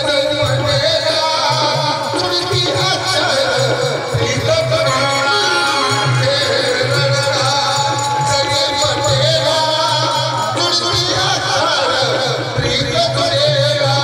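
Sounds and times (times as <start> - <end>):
drum and percussion: 0.0 - 14.0
folk song singing voice: 0.0 - 14.0.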